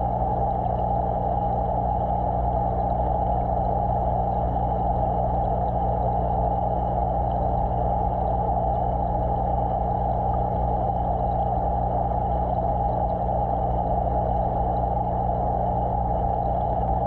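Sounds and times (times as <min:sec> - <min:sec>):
aquarium equipment humming: 0:00.0 - 0:17.0
water rushing underwater: 0:00.0 - 0:17.0.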